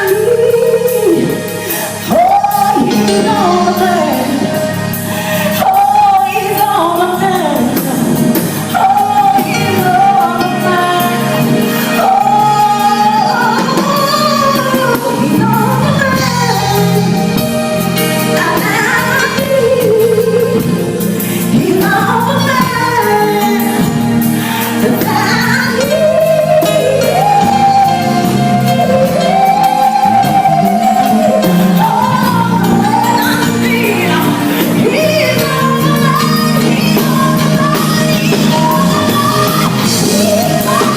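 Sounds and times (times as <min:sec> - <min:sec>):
live band accompaniment: 0:00.0 - 0:40.9
person singing gospel-style song: 0:00.0 - 0:40.9.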